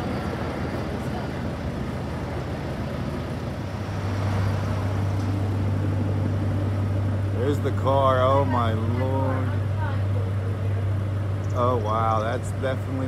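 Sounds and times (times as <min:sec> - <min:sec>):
diesel trucks in traffic: 0:00.0 - 0:13.0
truck engine hum: 0:00.0 - 0:13.0.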